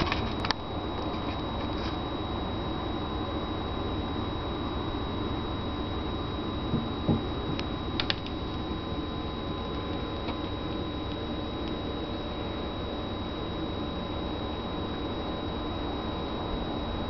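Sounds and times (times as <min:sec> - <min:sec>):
high-pitched whine: 0:00.0 - 0:17.0
indoor hum and hiss: 0:00.0 - 0:17.0.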